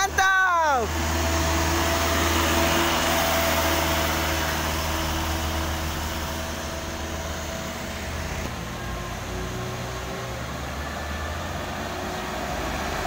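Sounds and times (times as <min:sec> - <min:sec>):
truck diesel engine passing: 0:00.0 - 0:13.0.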